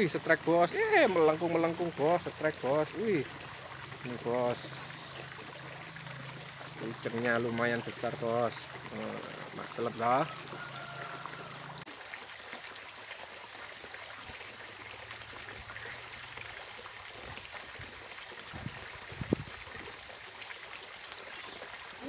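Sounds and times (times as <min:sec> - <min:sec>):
stream flowing over rocks: 0:00.0 - 0:22.0.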